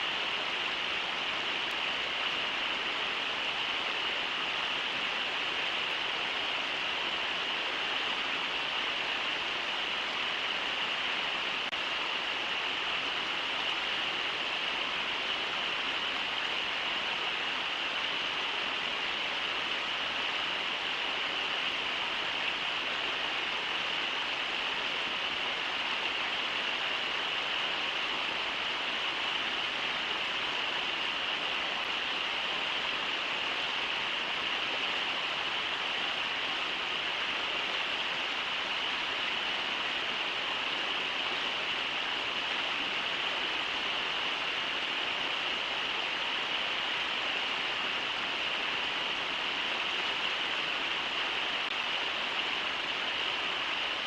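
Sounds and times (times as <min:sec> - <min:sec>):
river rushing over rapids: 0:00.0 - 0:54.0.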